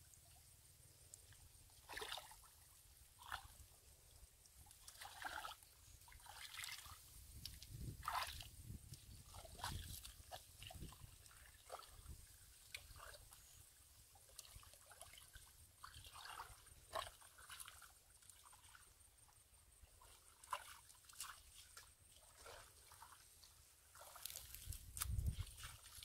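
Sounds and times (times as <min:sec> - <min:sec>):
hands squelching in wet mud: 0:01.2 - 0:02.6, 0:03.2 - 0:03.6, 0:04.7 - 0:13.6, 0:14.3 - 0:18.8, 0:19.9 - 0:26.0.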